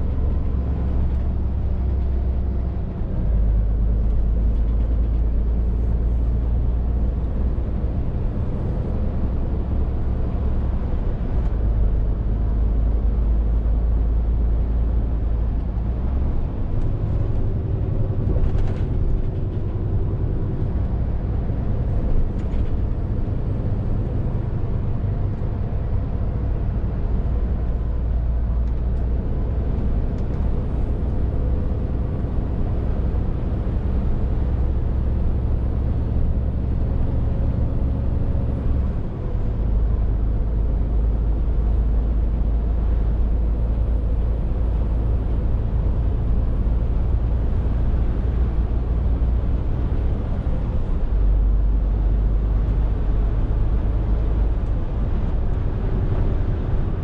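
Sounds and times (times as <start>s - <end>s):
lorry diesel engine rumbling: 0.0s - 57.0s
road noise: 0.0s - 57.0s.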